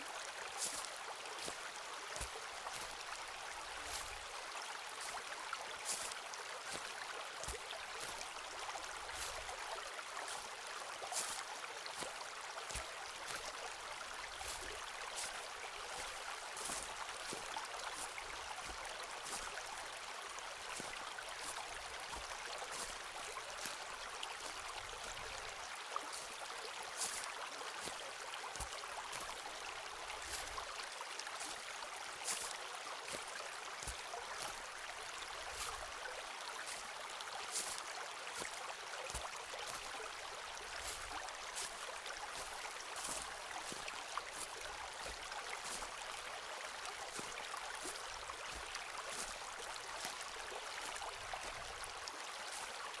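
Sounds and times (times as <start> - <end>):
footsteps crunching in forest: 0.5 - 52.8.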